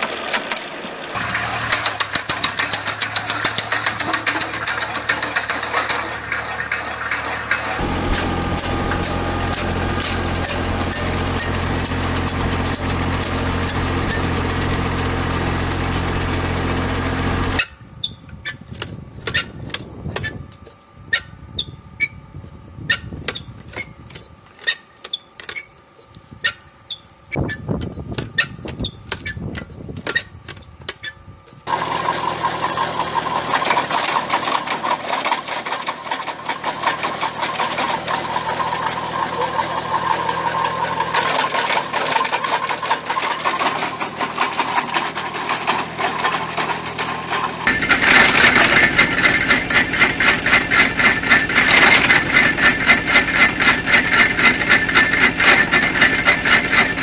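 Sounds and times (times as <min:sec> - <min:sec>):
wood chipper engine humming: 0:00.0 - 0:20.9, 0:23.2 - 0:57.0.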